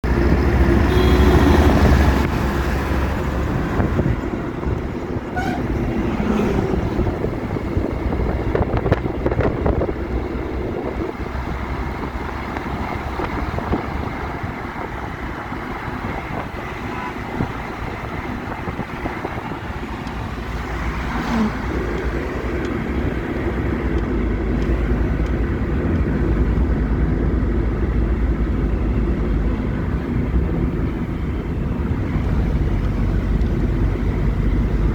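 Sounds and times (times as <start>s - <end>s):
car engine and tyres rumbling: 0.0s - 34.9s.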